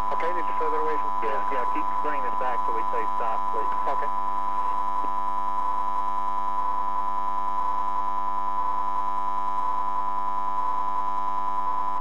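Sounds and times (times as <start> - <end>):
electronic hum of held tones: 0.0 - 12.0.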